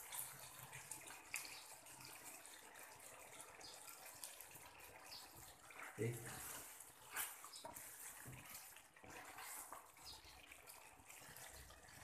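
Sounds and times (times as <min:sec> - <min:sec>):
sauce bubbling in frying pan: 0:00.0 - 0:12.0.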